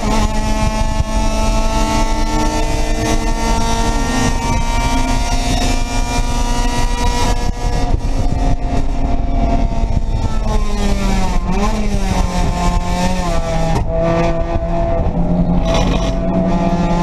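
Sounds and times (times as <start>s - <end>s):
race car engine running hard: 0.0s - 17.0s
road and wind noise: 0.0s - 17.0s.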